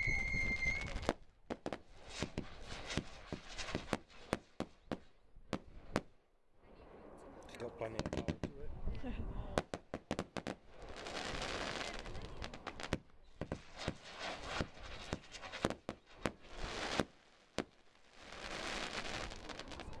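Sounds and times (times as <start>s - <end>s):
firework crackle: 0.0s - 6.2s, 7.9s - 8.6s, 9.5s - 20.0s
firework bangs: 0.4s - 6.2s, 7.9s - 8.6s, 9.5s - 20.0s.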